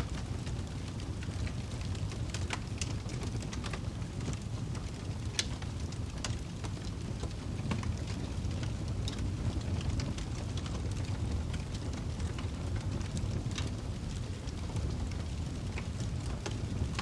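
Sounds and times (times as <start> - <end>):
burning wood crackling and popping: 0.0 - 17.0
fire flames rumbling: 0.0 - 17.0.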